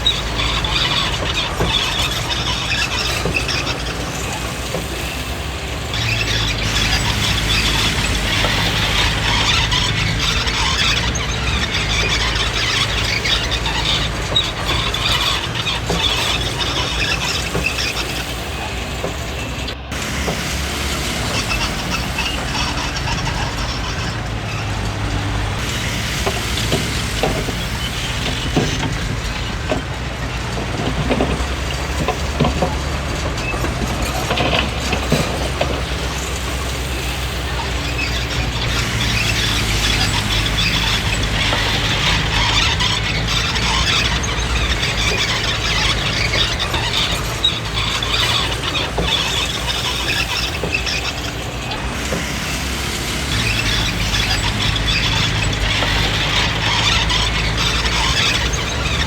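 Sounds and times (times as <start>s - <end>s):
diesel engine running: 0.0s - 59.0s
metallic squeal of steel tracks: 0.0s - 59.0s.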